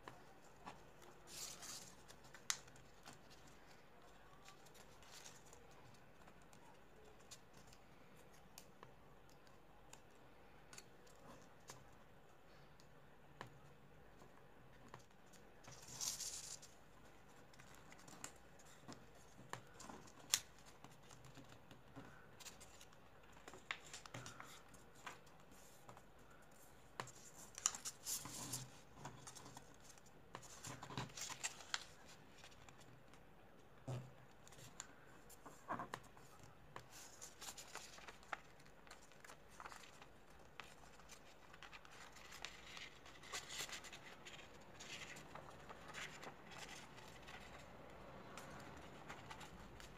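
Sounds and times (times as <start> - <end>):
paper rustling and crinkling: 0.0 - 8.8, 14.1 - 33.3, 33.9 - 49.9.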